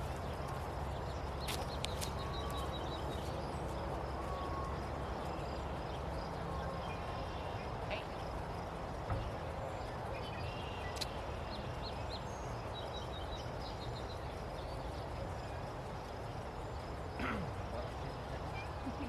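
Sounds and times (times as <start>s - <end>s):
low wind rumble: 0.0s - 19.0s.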